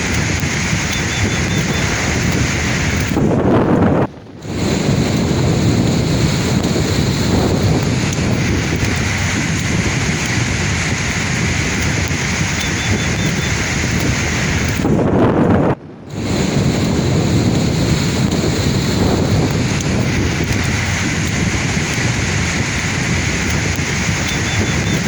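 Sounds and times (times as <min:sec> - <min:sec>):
sea waves breaking on shore: 0:00.0 - 0:15.0, 0:16.0 - 0:25.0
wind on microphone: 0:00.0 - 0:25.0.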